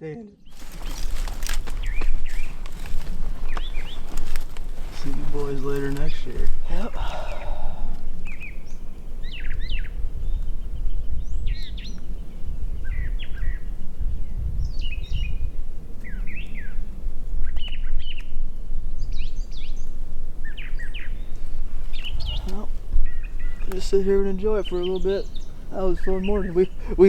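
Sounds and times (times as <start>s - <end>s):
songbirds chirping: 0.0s - 27.0s
constant low rumble: 0.4s - 27.0s.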